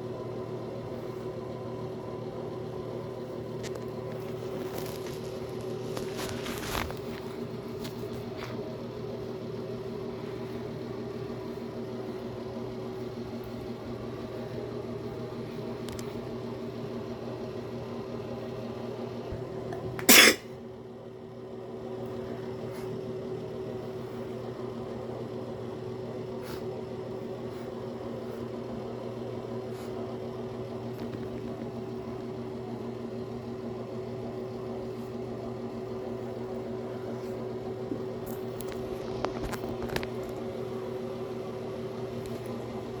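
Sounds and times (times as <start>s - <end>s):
steady machine hum: 0.0s - 43.0s.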